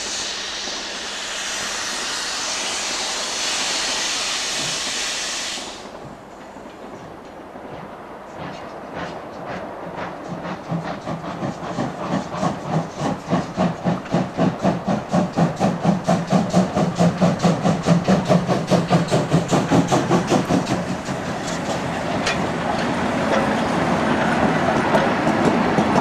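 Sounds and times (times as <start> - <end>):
steam locomotive exhaust chuffs: 0.0 - 6.6, 8.3 - 26.0
steam hissing: 0.0 - 6.9, 8.2 - 26.0
train wheels rolling: 0.0 - 26.0.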